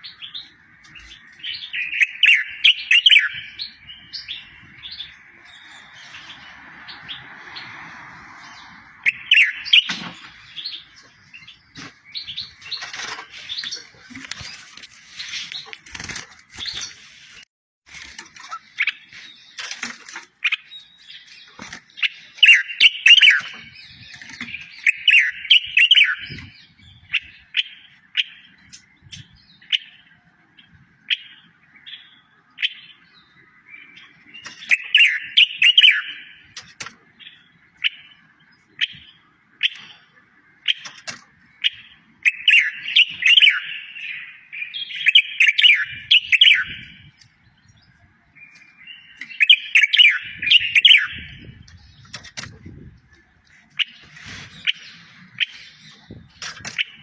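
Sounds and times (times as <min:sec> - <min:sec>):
songbird chirps and trills: 0:00.0 - 0:57.0.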